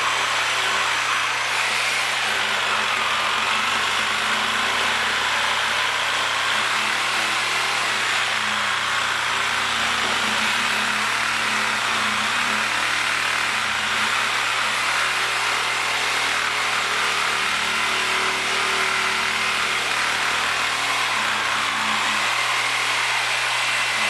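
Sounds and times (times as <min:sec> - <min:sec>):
power saw cutting tire: 0:00.0 - 0:24.0.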